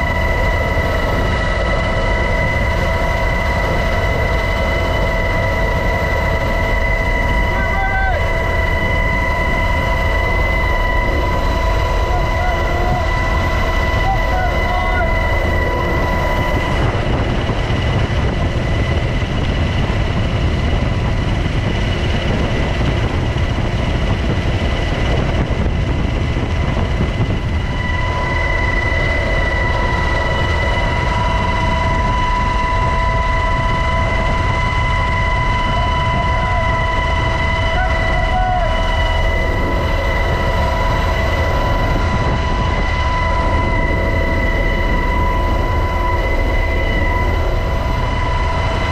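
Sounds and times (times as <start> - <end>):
helicopter rumble: 0.0 - 48.9
high whine: 0.0 - 48.9.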